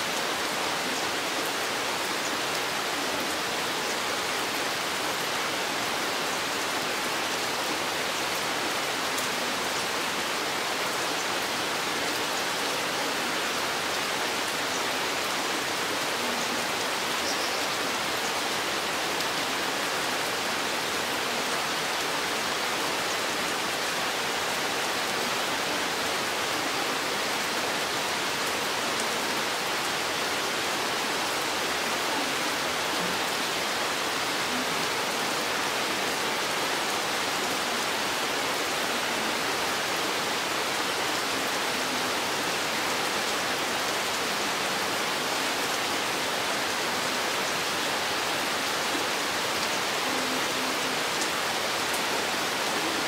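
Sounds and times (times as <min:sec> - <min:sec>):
rain falling in a forest: 0:00.0 - 0:53.0.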